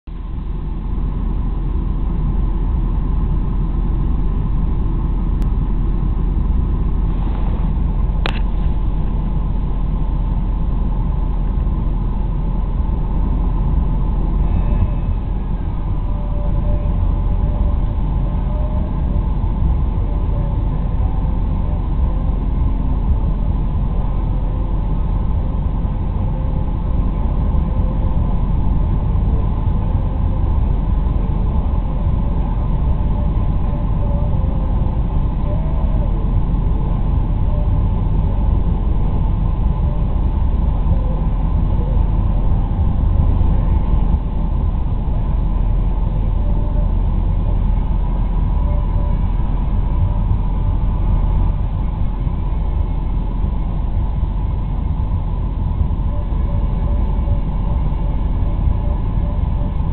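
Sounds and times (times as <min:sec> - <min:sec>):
vehicle rumbling: 0:00.0 - 0:59.9.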